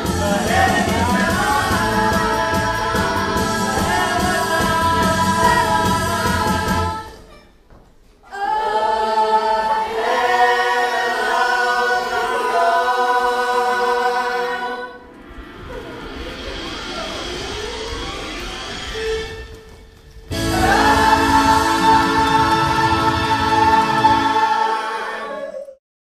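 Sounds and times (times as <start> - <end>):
chorus singing with accompaniment: 0.0 - 7.4, 8.2 - 19.3, 20.3 - 25.7.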